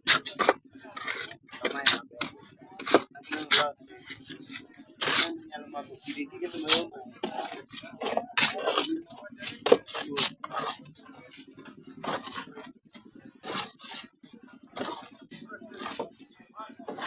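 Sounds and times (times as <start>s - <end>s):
hand tools scraping and knocking: 0.0s - 17.0s.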